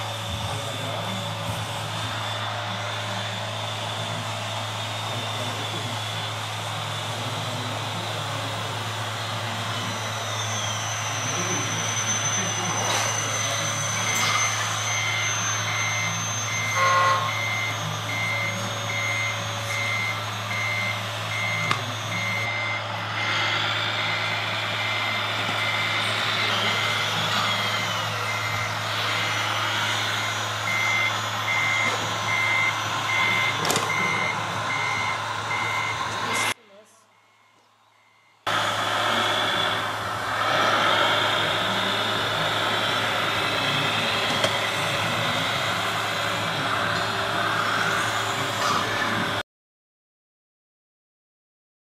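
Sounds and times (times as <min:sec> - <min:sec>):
reversing beeper: 0:00.0 - 0:49.4
whines rising and falling: 0:00.0 - 0:49.4.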